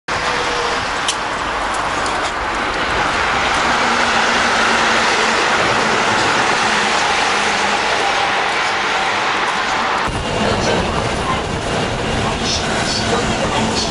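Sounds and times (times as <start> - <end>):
train running on elevated track: 0.1 - 13.9.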